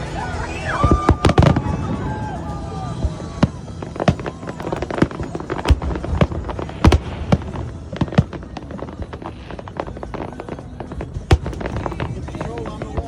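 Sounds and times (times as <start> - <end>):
fireworks bangs: 0.7 - 13.0.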